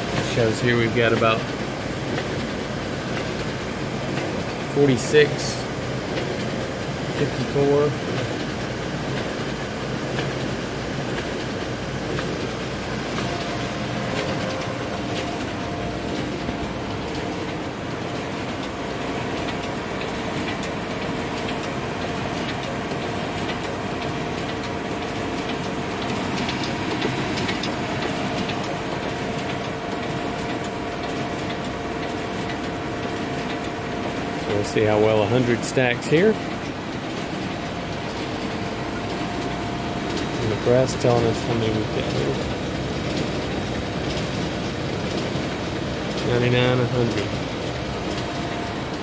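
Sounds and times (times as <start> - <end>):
printing press whirring and clicking: 0.0 - 49.0
steady hum: 0.0 - 49.0.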